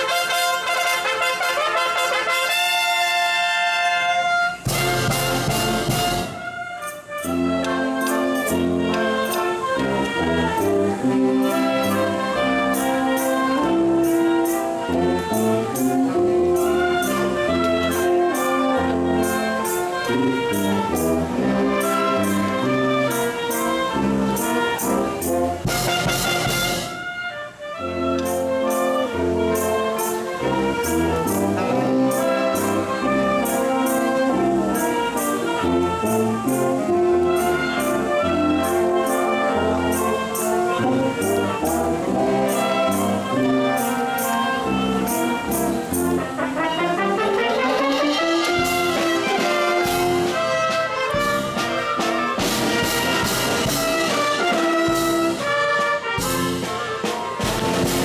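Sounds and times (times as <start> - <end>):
wash of noise: 0.0 - 58.0
wind band playing chords: 0.0 - 58.0
percussion beat: 4.6 - 27.1, 28.2 - 58.0.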